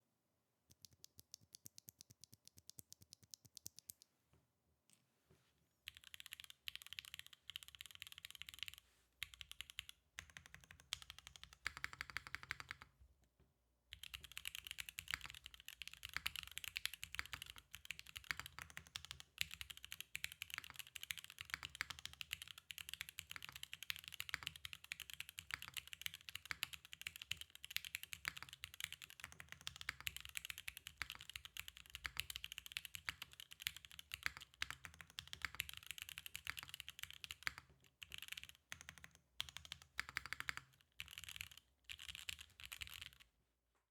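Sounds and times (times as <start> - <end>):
mechanical keyboard typing: 5.9 - 12.9, 13.9 - 43.3.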